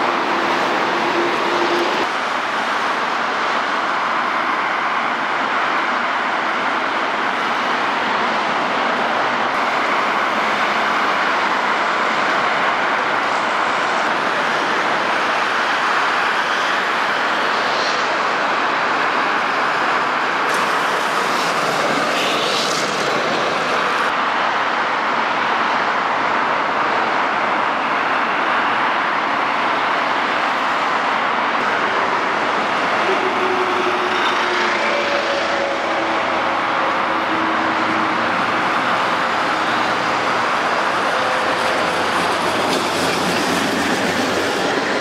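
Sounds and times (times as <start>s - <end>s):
heavy road traffic: 0.0s - 45.0s
trams running on track: 0.0s - 45.0s.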